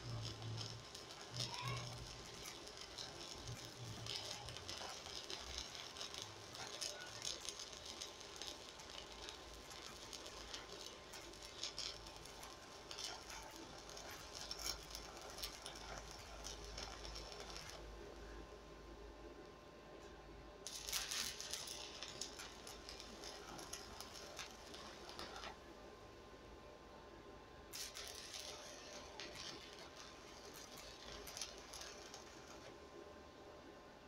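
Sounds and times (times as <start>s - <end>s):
welding arc crackling and popping: 0.0s - 18.4s, 20.6s - 25.7s, 27.7s - 32.8s.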